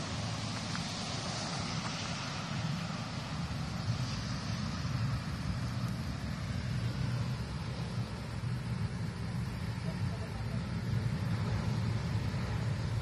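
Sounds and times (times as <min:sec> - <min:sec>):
outdoor hiss: 0:00.0 - 0:13.0
train rumble approaching: 0:00.0 - 0:13.0.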